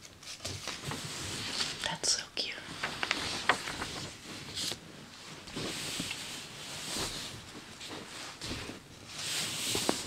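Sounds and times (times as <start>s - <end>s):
hands rubbing paper pages: 0.1s - 1.8s, 2.8s - 10.0s.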